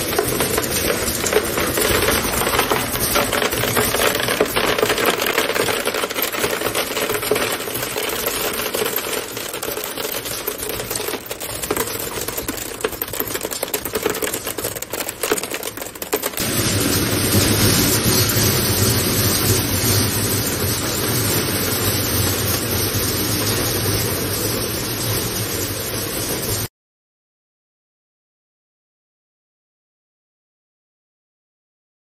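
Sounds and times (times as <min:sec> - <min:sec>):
broken glass clattering through machine: 0:00.0 - 0:26.6.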